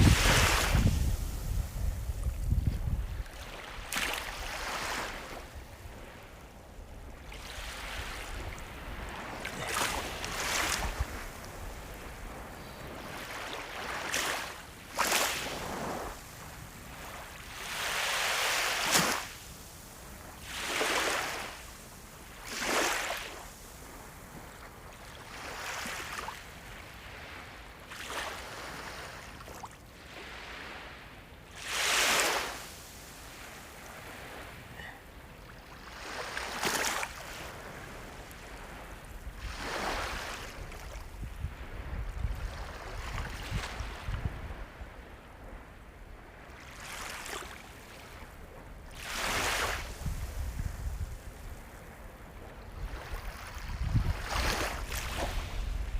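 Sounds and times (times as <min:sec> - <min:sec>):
sea waves washing in: 0:00.0 - 0:55.9.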